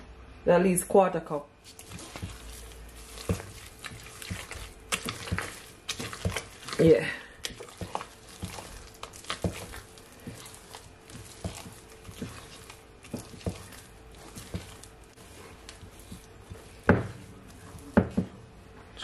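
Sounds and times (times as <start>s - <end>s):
dough squelching: 1.5s - 19.0s.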